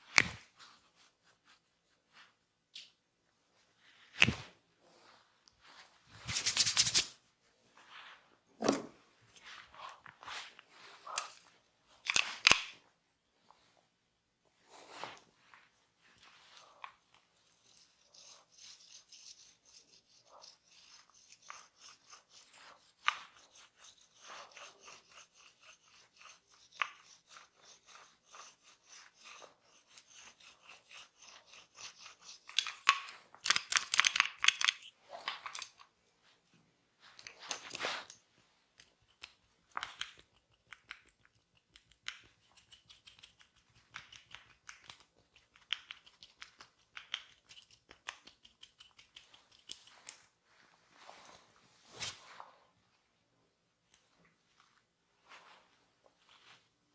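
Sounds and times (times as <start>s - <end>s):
hands rubbing and scratching: 0.0s - 8.4s, 9.1s - 13.8s, 14.6s - 52.8s, 53.9s - 56.9s.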